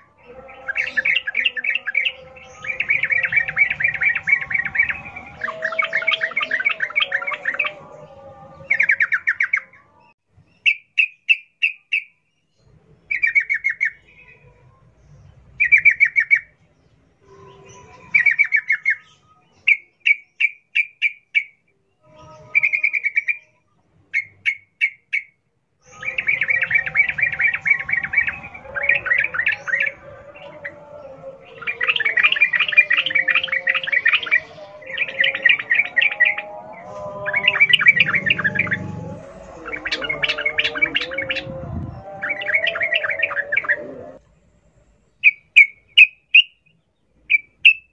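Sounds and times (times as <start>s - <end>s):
bird singing fast trills: 0.0s - 16.6s, 17.2s - 23.6s, 24.2s - 44.2s, 45.1s - 47.9s.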